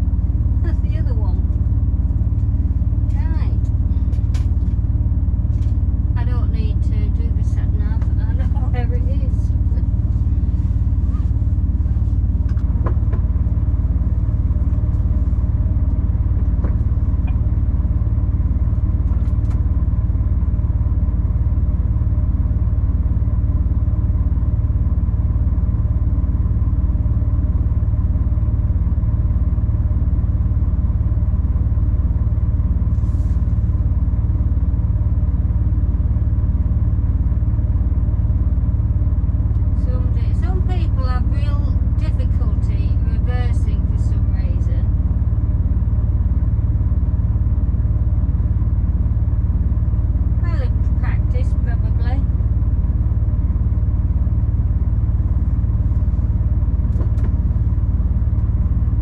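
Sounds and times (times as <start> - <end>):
lorry diesel engine droning: 0.0 - 59.0
road rumble: 0.0 - 59.0.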